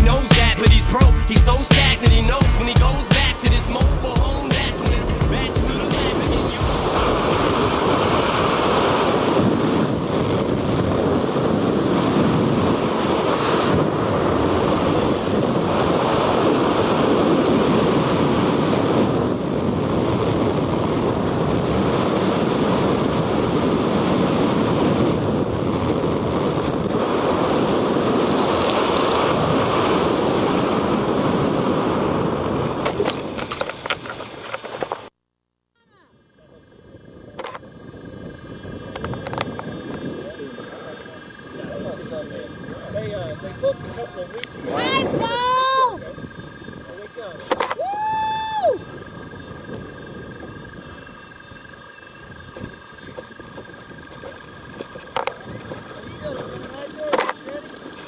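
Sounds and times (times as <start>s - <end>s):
wind buffeting microphone: 2.7s - 34.6s, 36.4s - 58.0s.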